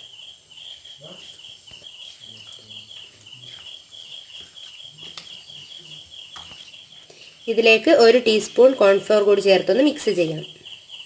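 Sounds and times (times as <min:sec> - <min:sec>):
high-pitched pulsing chirping: 0:00.0 - 0:11.0.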